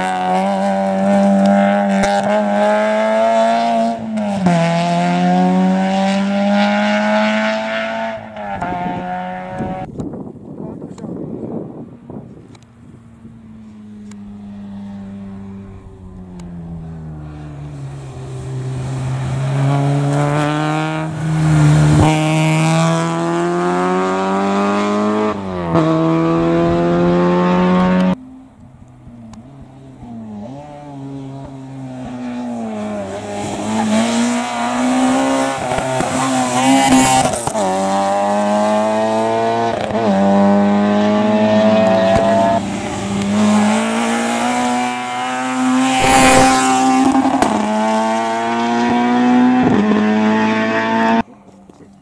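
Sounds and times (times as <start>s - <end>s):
rally car engines revving: 0.0s - 10.0s, 10.9s - 52.0s.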